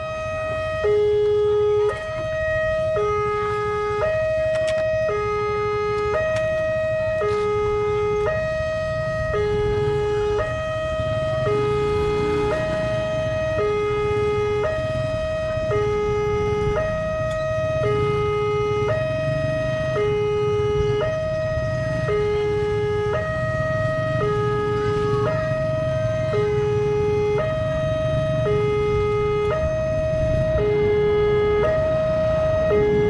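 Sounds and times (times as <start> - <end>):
two-tone level crossing alarm: 0.0 - 33.0.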